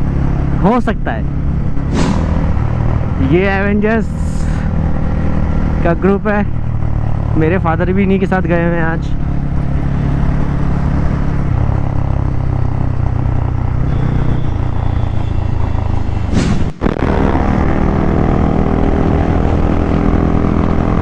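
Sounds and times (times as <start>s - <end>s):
motorcycle engine running: 0.0s - 21.0s
rush of noise: 0.0s - 21.0s.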